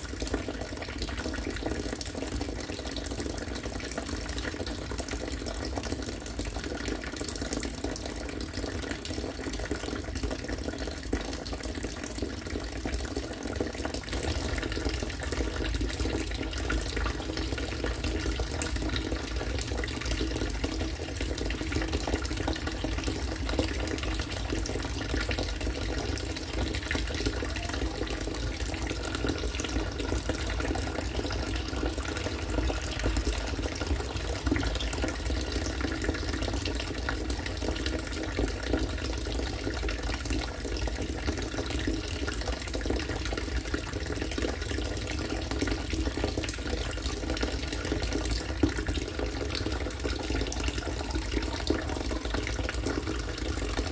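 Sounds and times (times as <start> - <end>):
water pouring into water: 0.0 - 53.9.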